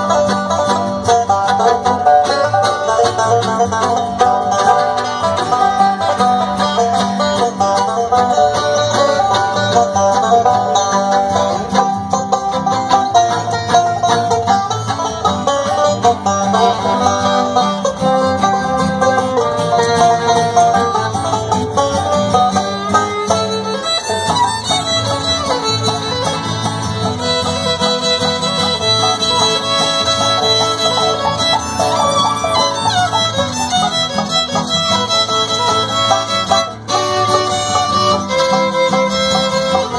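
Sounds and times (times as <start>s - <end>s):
acoustic guitar: 0.0s - 39.9s
banjo: 0.0s - 39.9s
fiddle: 0.0s - 39.9s
upright bass: 0.0s - 39.9s.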